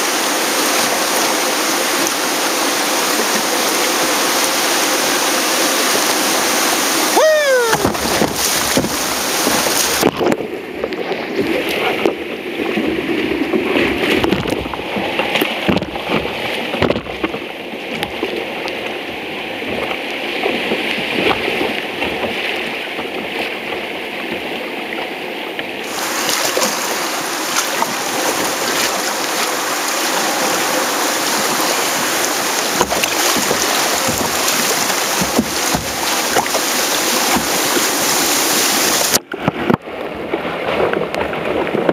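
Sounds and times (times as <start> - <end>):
river rapids rushing and splashing: 0.0 - 41.9.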